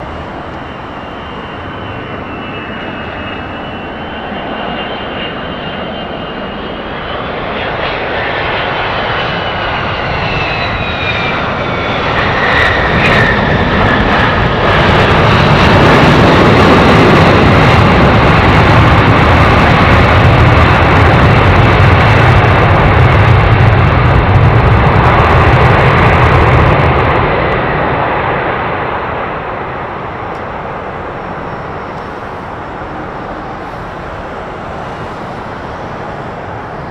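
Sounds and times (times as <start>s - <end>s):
airplane engines whining: 0.0s - 36.9s.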